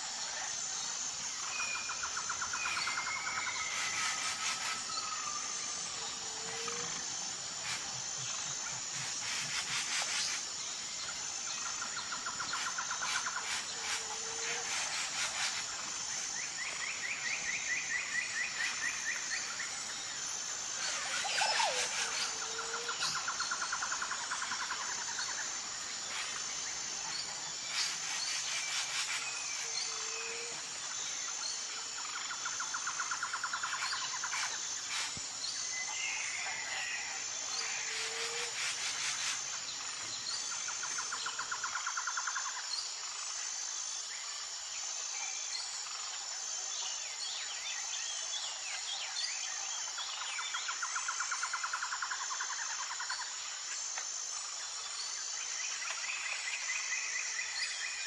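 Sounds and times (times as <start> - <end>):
insect chorus pulsing: 0.0 - 58.0.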